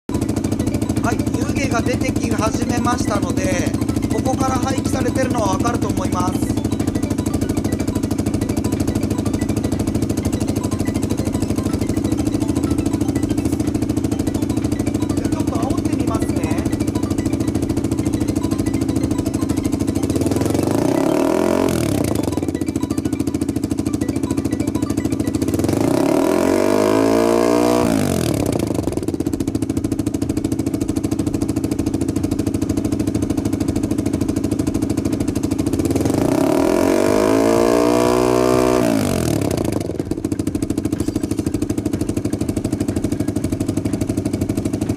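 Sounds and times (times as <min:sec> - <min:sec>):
engine exhaust idling and revving: 0:00.1 - 0:44.9.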